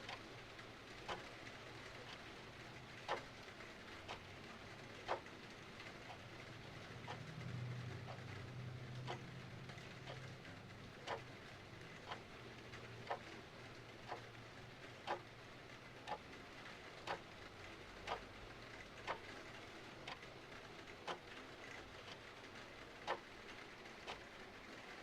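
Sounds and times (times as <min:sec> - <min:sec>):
clock ticking: 0:00.0 - 0:24.4.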